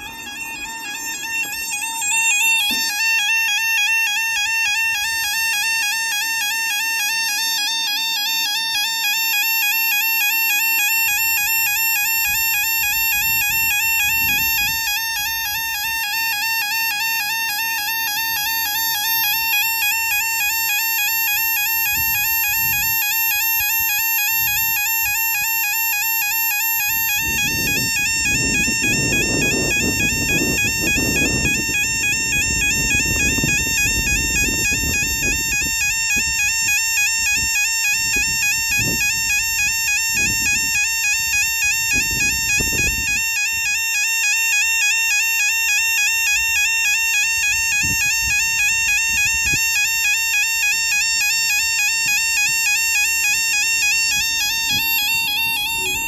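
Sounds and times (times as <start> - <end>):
level crossing alarm warbling: 0.0 - 56.0.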